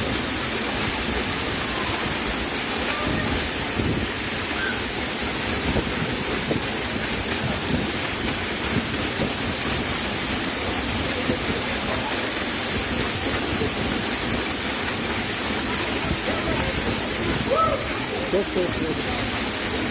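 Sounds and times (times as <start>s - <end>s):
waterfall roaring: 0.0s - 19.9s.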